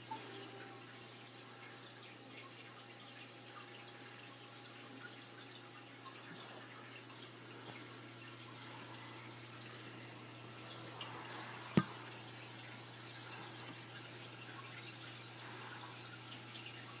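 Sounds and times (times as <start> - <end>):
water dripping and trickling: 0.0 - 17.0.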